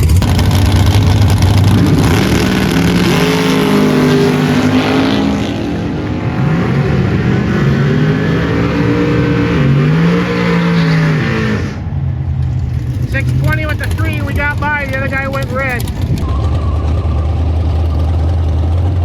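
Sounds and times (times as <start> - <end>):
drag racing car engines: 0.0 - 19.0.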